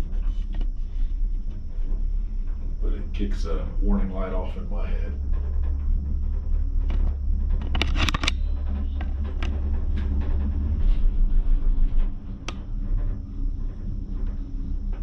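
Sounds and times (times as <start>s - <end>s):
gondola cabin rumble: 0.0s - 15.0s.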